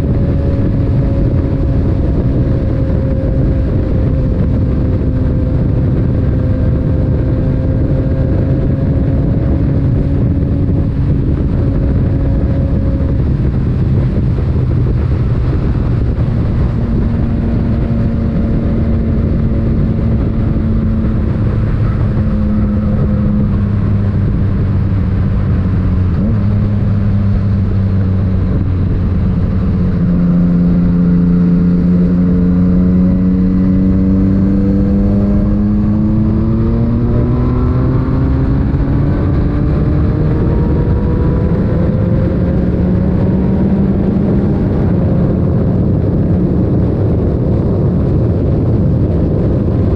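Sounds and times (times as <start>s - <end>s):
motorcycle engine running: 0.0s - 49.9s
road noise: 0.0s - 49.9s
wind noise: 0.0s - 49.9s.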